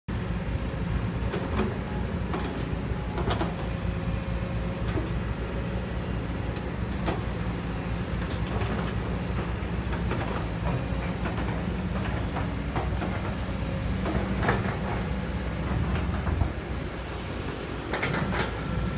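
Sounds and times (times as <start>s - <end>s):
excavator diesel engine running: 0.1s - 18.9s.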